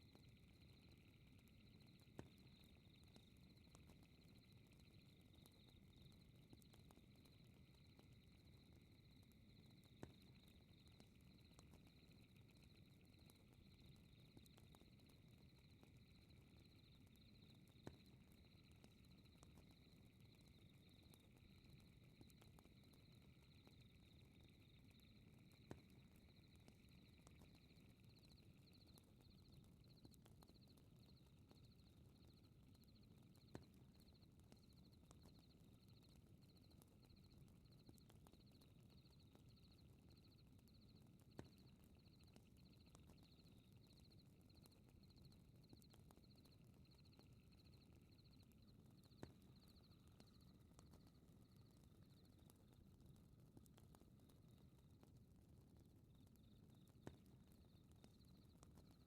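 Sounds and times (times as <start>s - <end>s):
trill of night insects: 0.0s - 55.0s, 56.1s - 59.0s.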